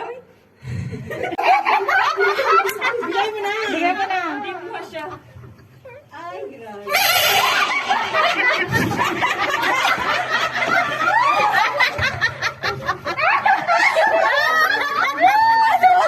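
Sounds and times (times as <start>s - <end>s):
women laughing: 1.0s - 6.1s, 6.9s - 16.0s.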